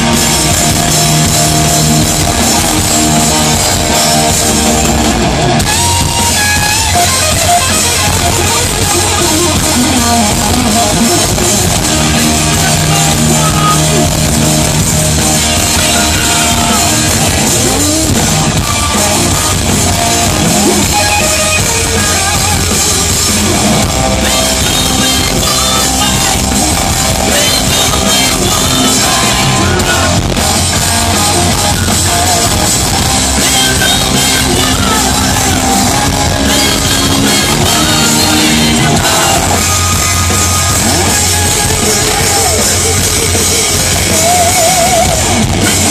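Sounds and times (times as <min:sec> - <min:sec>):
drum kit: 0:00.0 - 0:45.9
electric guitar: 0:00.0 - 0:45.9
rock band playing loudly: 0:00.0 - 0:45.9
steady bass: 0:00.0 - 0:45.9.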